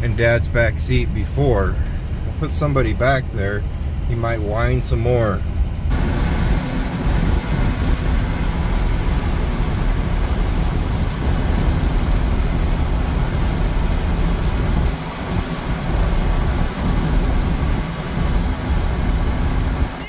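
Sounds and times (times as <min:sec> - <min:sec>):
road and wind noise in a truck cab: 0:00.0 - 0:20.0.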